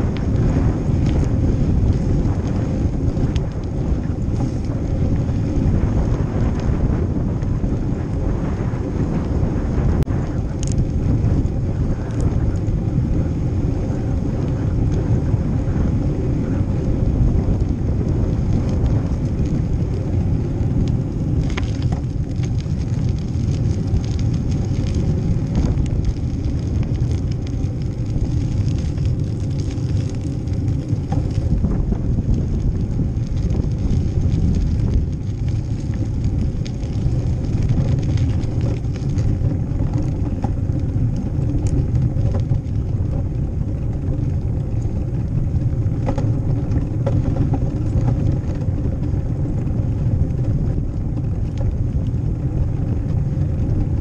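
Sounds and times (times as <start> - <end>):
small clicks and rattles: 0.0 - 8.2, 9.2 - 13.2, 13.8 - 54.0
bicycle tyre rolling noise: 0.0 - 54.0
wind buffeting microphone: 0.0 - 54.0.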